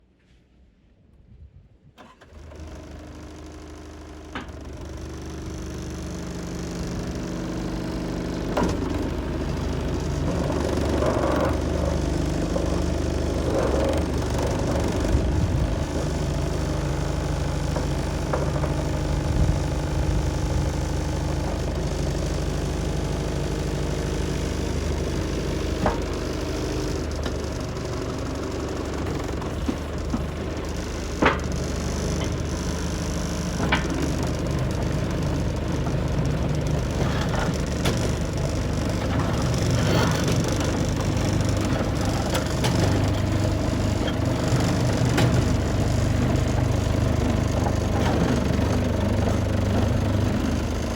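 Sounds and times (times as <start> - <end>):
bulldozer diesel engine running: 2.0 - 50.9.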